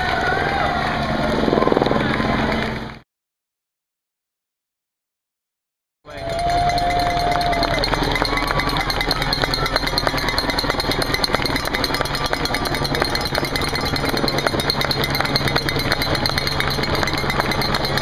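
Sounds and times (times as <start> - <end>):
low engine hum: 0.0 - 3.0, 6.1 - 18.0
racing bikes clicking past: 0.0 - 3.0, 6.1 - 18.0
spectators making noise: 0.0 - 3.0, 6.1 - 18.0.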